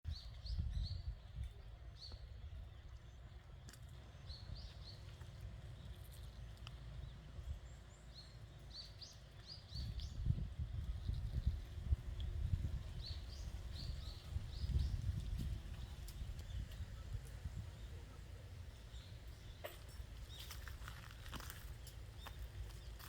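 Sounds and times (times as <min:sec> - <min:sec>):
small birds chirping: 0:00.1 - 0:23.0.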